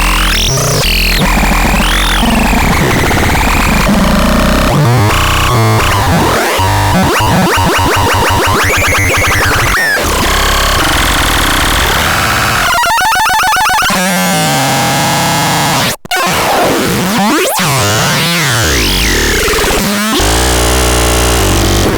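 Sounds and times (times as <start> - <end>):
chaotic synthesizer electronic sounds: 0.0 - 21.9.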